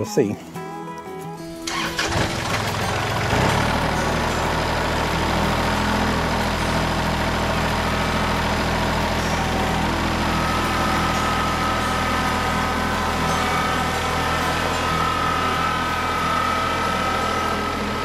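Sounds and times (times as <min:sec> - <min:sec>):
tractor diesel engine running: 0:01.5 - 0:18.0.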